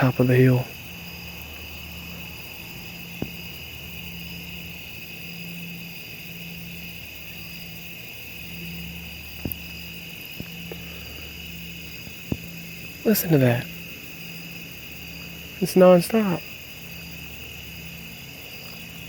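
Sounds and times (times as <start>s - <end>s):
distant mechanical rumbling hum: 0.0s - 19.0s
insects chirring: 0.0s - 19.0s.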